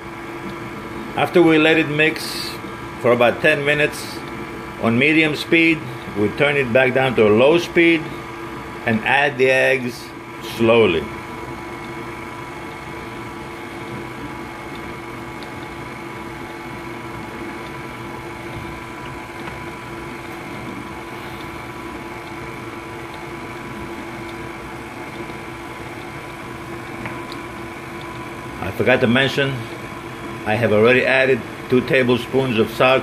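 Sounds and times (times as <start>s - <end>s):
stand mixer motor humming: 0.0s - 33.0s.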